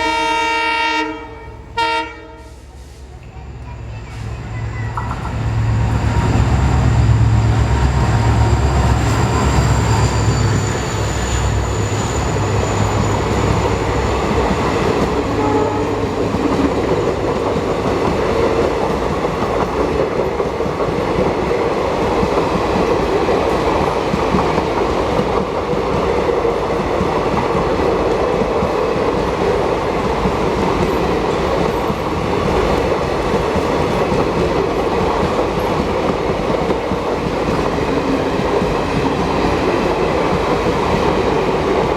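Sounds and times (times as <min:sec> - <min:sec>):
diesel locomotive engine drone: 0:01.3 - 0:41.9
train wheels clattering on rails: 0:04.1 - 0:41.9.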